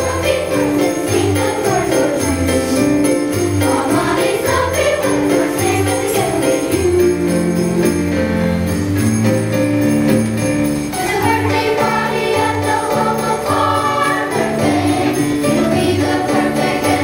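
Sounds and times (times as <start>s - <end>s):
children's choir singing: 0.0s - 7.8s, 10.9s - 17.0s
jingle bells shaking: 0.0s - 17.0s.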